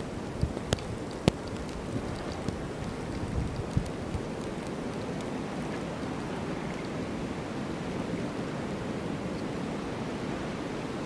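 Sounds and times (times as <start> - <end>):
blizzard wind blowing: 0.0 - 11.0.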